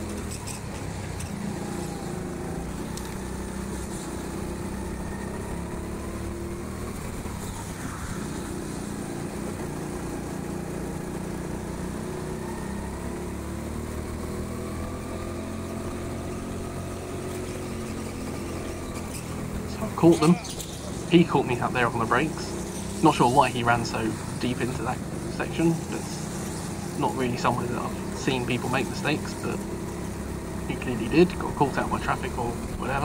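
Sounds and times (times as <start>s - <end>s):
go-kart engine: 0.0s - 33.0s.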